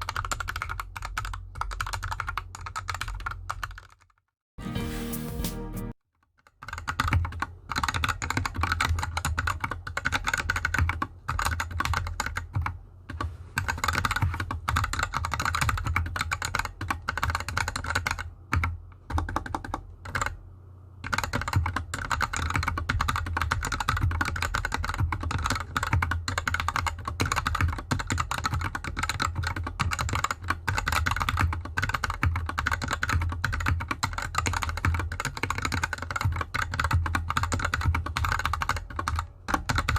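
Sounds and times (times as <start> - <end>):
mechanical keyboard typing: 0.0 - 4.2, 6.4 - 20.4, 21.0 - 39.9.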